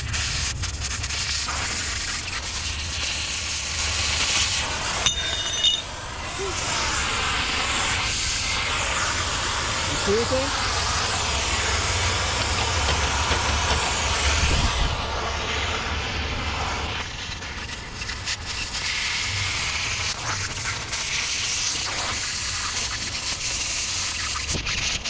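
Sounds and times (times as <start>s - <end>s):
cutting torch hissing: 0.0s - 5.1s, 5.9s - 25.0s.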